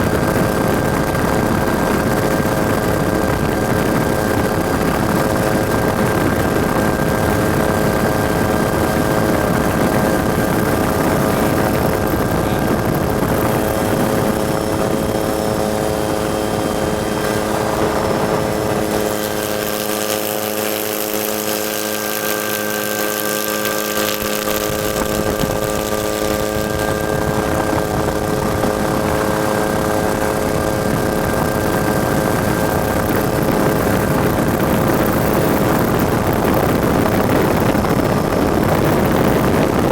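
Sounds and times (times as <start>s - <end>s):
helicopter drone: 0.0s - 39.9s.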